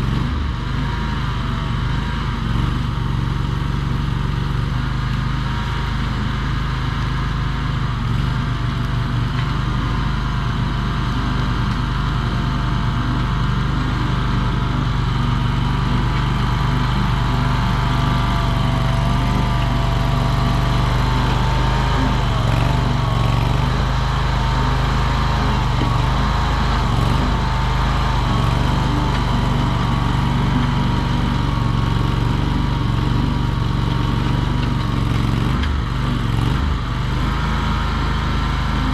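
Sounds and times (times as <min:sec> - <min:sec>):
skid steer engine running: 0:00.0 - 0:38.9.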